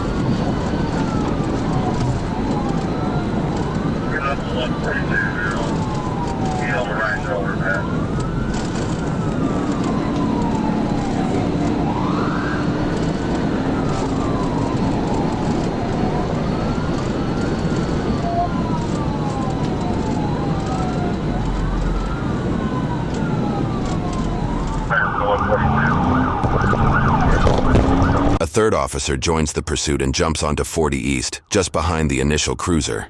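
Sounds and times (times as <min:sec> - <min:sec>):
police siren wailing: 0:00.0 - 0:28.4
road and wind noise: 0:00.0 - 0:33.0.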